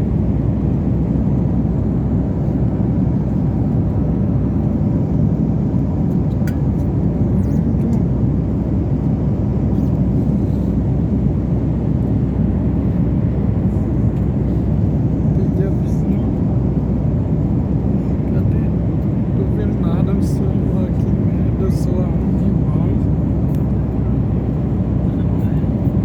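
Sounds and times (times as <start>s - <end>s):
jet engine roar in airliner cabin: 0.0s - 26.0s.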